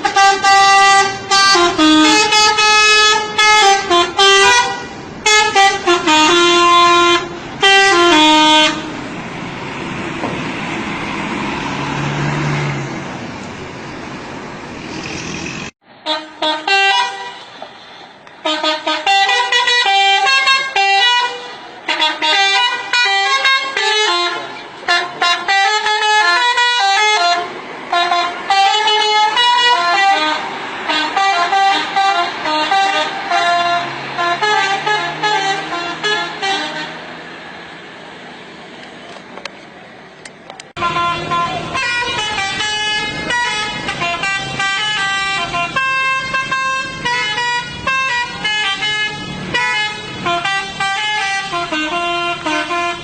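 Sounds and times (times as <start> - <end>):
musical bus air horns: 0.0 - 9.1, 15.9 - 37.4, 40.8 - 53.0.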